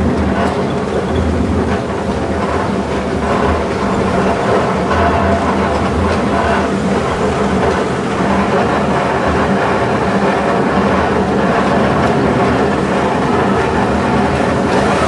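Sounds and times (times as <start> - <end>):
road rumble: 0.0 - 15.0
vehicle engine hum: 0.0 - 15.0.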